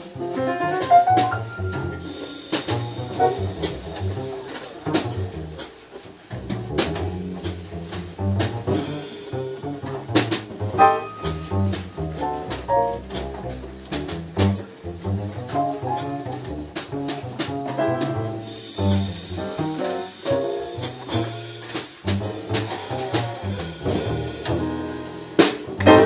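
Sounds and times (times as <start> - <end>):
double bass plucking: 0.0 - 26.0
piano: 0.0 - 26.0.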